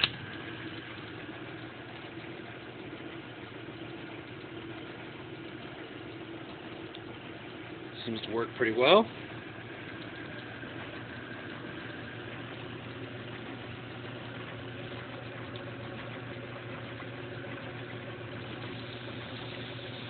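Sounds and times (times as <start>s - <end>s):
lathe motor humming: 0.0s - 20.0s.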